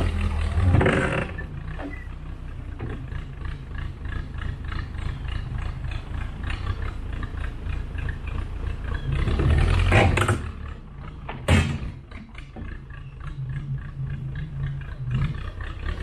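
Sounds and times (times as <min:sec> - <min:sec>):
backhoe engine rumbling: 0:00.0 - 0:16.0.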